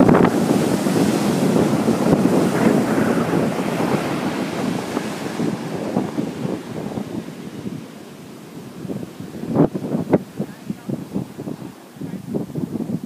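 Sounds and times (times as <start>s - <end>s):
ocean waves breaking on sand: 0.0s - 13.0s
wind buffeting microphone: 0.0s - 13.0s.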